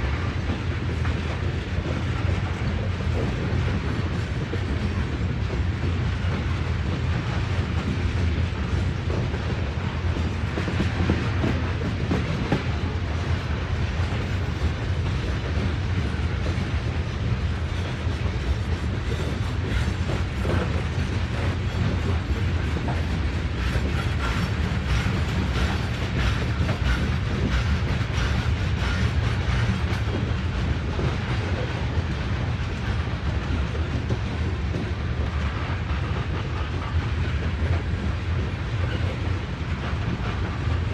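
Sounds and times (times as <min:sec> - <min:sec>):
freight train cars rumbling: 0:00.0 - 0:40.9.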